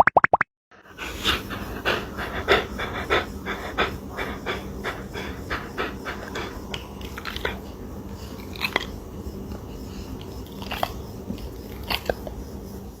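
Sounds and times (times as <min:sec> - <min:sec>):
pet chewing and crunching: 0:00.8 - 0:12.8
steady low hum: 0:00.8 - 0:13.0.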